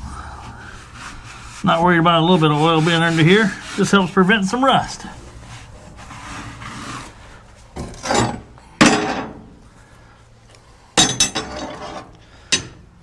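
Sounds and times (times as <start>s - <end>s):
knocks and scrapes of handling: 0.4s - 10.0s, 11.2s - 12.8s.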